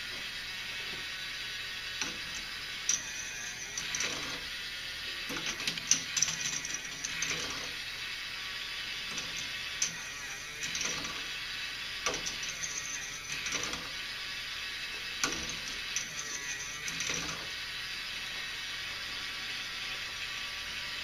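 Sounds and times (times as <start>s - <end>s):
small motor running: 0.0s - 21.0s.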